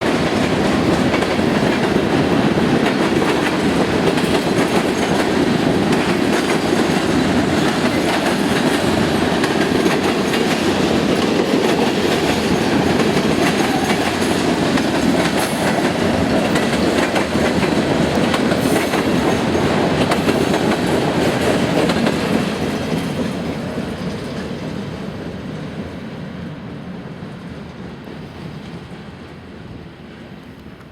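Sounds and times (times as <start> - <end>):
train wheels rumbling on track: 0.0 - 30.9.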